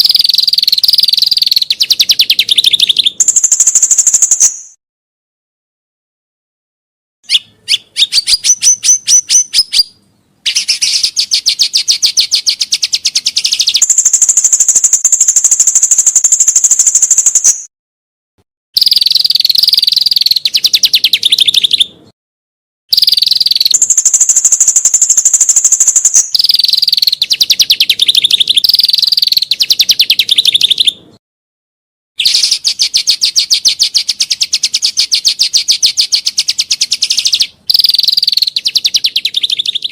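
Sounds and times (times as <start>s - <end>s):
songbird trilling: 0.0s - 4.8s, 7.2s - 17.7s, 18.8s - 22.0s, 22.9s - 31.0s, 32.2s - 39.9s.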